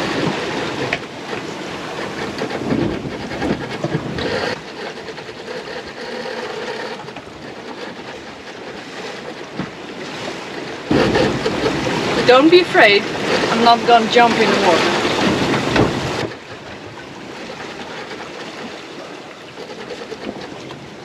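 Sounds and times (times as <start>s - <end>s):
sea water rushing: 0.0s - 21.0s.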